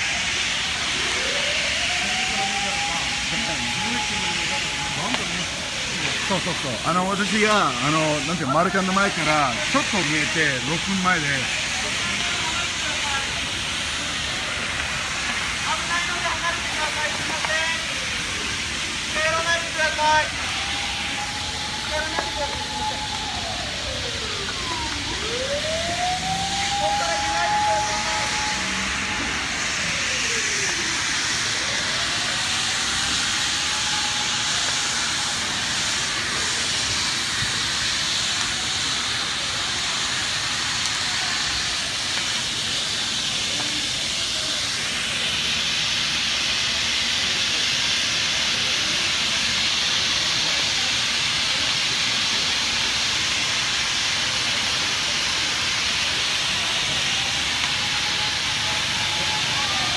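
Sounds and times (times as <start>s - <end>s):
faint siren wailing: 0.0s - 59.9s
fire hissing rush: 0.0s - 59.9s.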